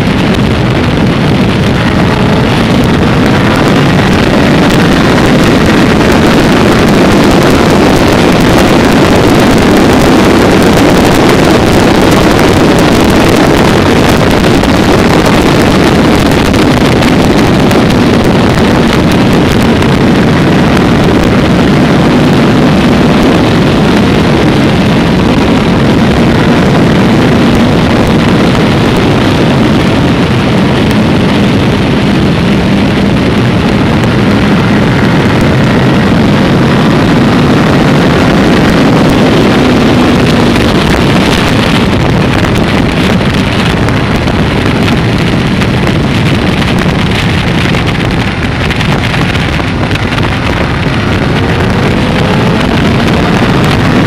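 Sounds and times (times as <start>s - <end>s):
engine and tyre noise: 0.0s - 54.0s
vehicle rushing at speed: 0.0s - 54.0s
wind buffeting microphone: 0.0s - 54.0s.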